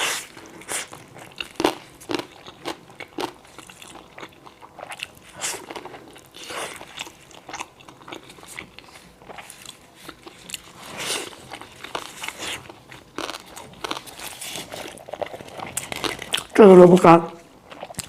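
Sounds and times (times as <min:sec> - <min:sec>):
crunchy chewing: 0:00.0 - 0:16.6, 0:17.5 - 0:18.0.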